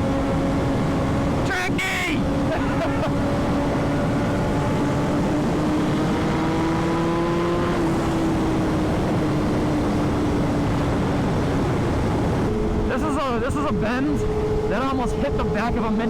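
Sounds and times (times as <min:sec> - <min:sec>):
motorcycle engine running hard: 0:00.0 - 0:12.9
rush of wind noise: 0:00.0 - 0:16.0.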